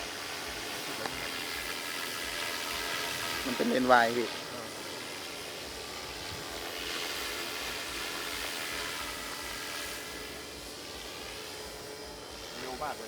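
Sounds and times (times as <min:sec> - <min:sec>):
model airplane motor: 0:00.0 - 0:13.0.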